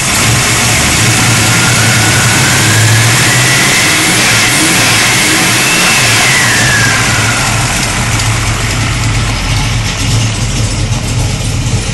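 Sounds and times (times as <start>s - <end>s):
car engine idling: 0.0s - 11.9s
high falling whine: 0.0s - 11.9s.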